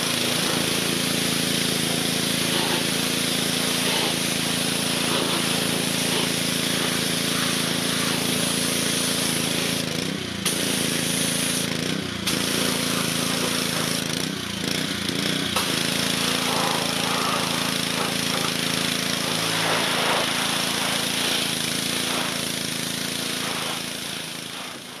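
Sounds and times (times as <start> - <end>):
water hissing from spray wand: 0.0 - 14.8, 15.5 - 25.0
pressure washer engine running: 0.0 - 25.0.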